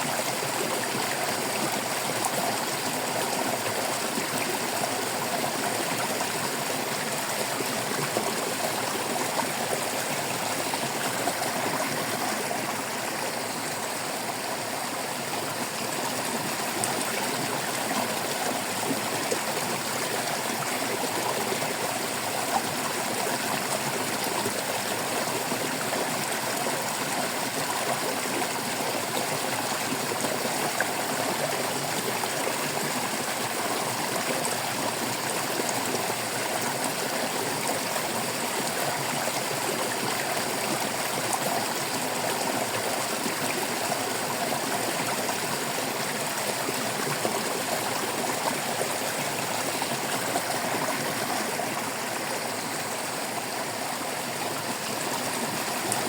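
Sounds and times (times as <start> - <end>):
water babbling over stones: 0.0 - 56.0.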